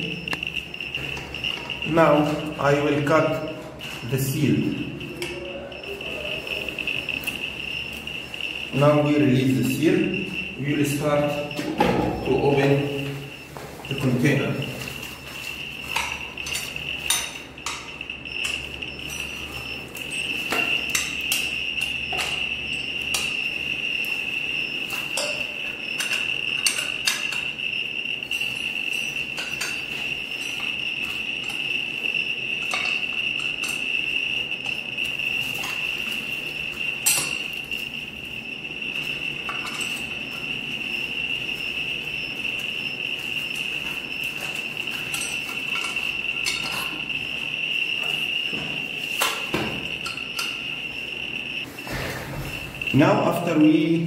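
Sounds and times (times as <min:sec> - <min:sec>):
high-pitched electronic tone: 0:00.0 - 0:54.0.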